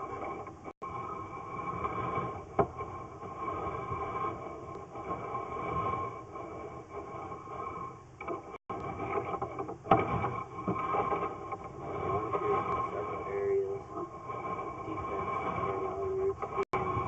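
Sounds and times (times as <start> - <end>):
machine hum with steady tones: 0.0 - 17.0.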